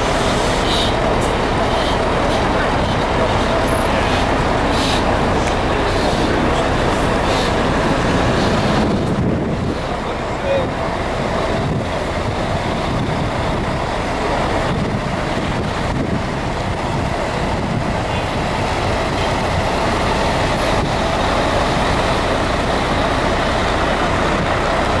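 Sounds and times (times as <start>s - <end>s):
diesel coach engines idling: 0.0s - 25.0s.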